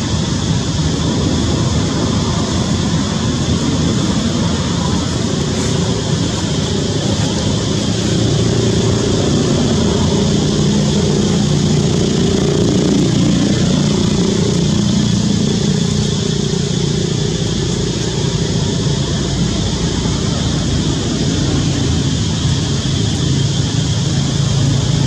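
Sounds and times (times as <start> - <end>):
engine droning steadily: 0.0 - 25.0.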